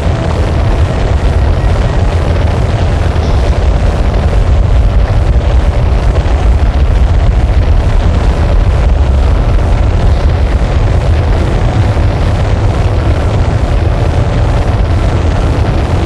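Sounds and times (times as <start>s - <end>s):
distorted noise music: 0.0s - 16.0s.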